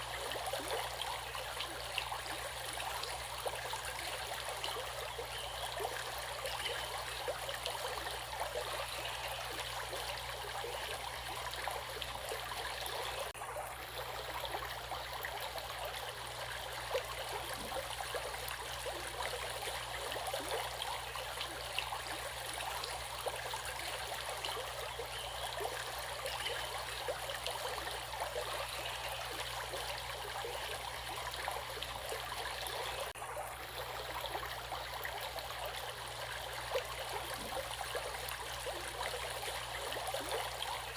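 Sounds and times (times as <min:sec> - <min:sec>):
stream water running: 0:00.0 - 0:40.9.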